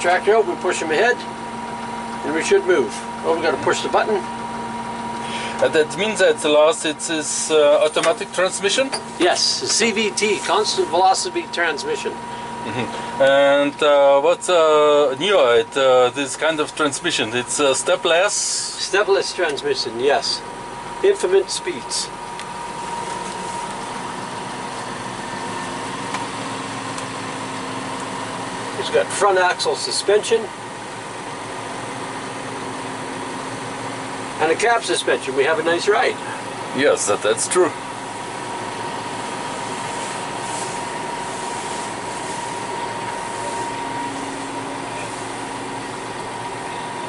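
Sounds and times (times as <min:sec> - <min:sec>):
steady whine: 0:00.0 - 0:47.0
tractor engine running: 0:00.0 - 0:47.0.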